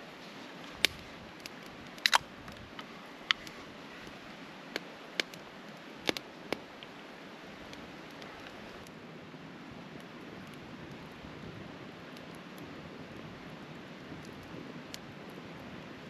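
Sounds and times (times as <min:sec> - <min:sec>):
faint steady hiss: 0:00.0 - 0:16.0
wood fire crackling: 0:00.0 - 0:16.0.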